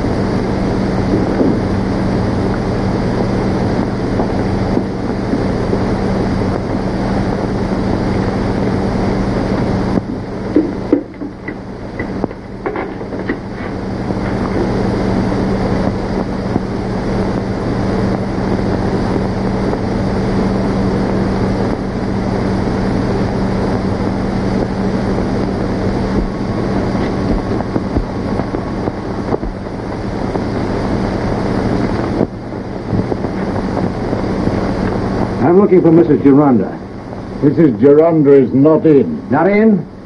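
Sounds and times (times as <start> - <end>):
constant low hum: 0.0 - 40.0
film soundtrack hiss: 0.0 - 40.0.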